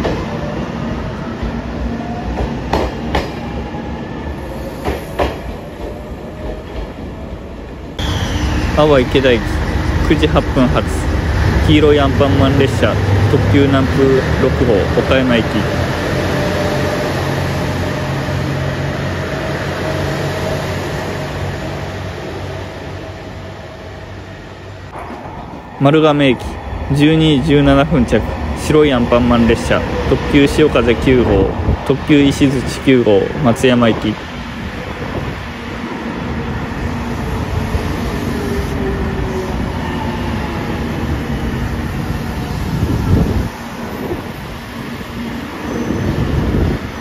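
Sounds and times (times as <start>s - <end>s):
diesel train engine drone: 0.0s - 47.0s.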